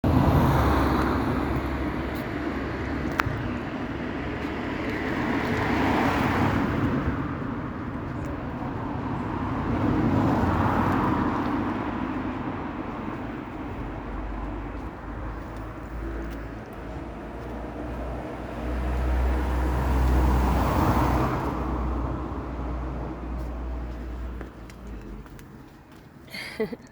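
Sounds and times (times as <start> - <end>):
cars passing: 0.0 - 26.9.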